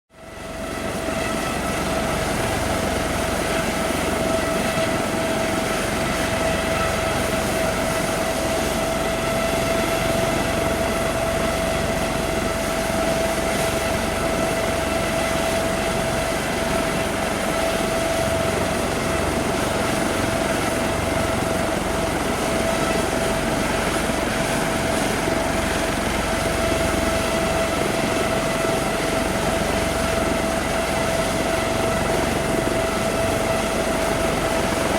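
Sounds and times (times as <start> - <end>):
helicopter idling: 0.2 - 34.9.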